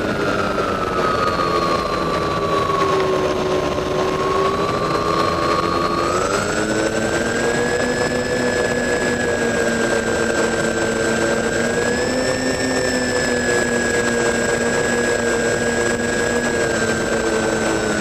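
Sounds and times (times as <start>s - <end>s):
model airplane motor and propeller: 0.0s - 18.0s.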